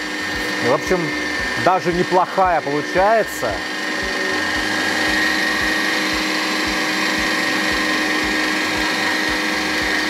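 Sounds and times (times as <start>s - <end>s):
electric meat grinder whining: 0.0s - 10.0s.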